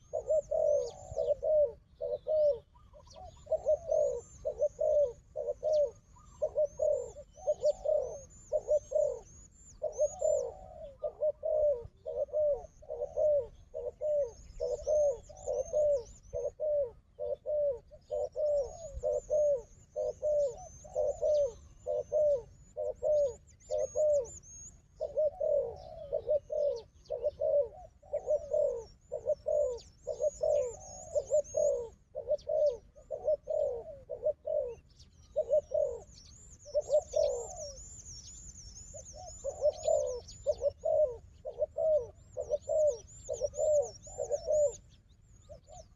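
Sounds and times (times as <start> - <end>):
doves cooing: 0.0 - 45.9
small birds chirping: 0.0 - 45.9.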